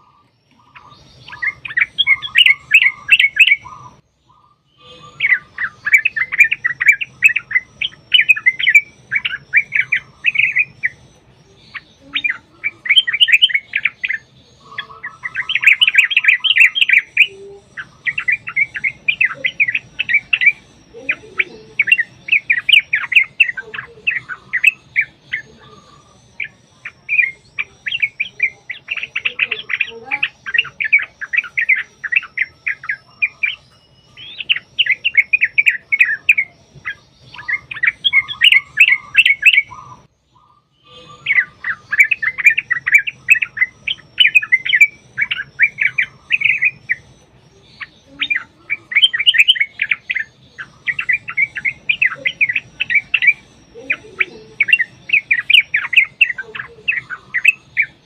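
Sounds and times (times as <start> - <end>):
bulbul singing chattering notes: 0.0 - 58.0.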